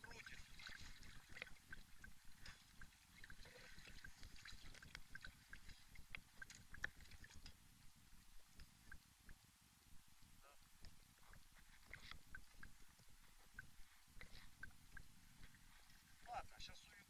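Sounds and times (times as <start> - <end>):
campfire crackling: 0.0 - 16.7.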